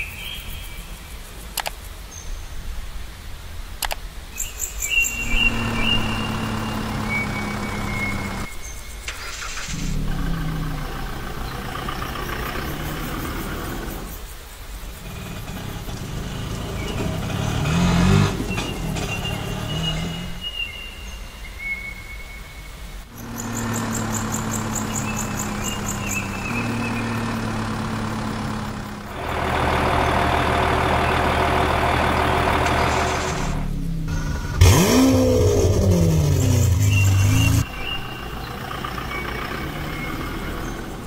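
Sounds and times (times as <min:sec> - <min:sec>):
vehicle engine hum: 0:04.8 - 0:20.6, 0:23.0 - 0:41.0.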